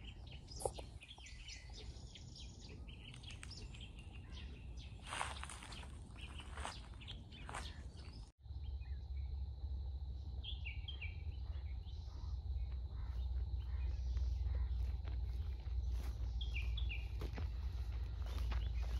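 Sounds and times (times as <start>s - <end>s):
small birds chirping: 0.0s - 9.4s, 10.0s - 18.9s.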